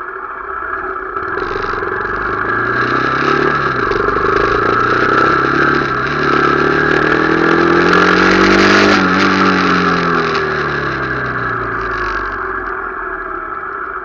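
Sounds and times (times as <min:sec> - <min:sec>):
motorcycle engine accelerating: 0:00.0 - 0:14.0
wind and road noise: 0:00.0 - 0:14.0.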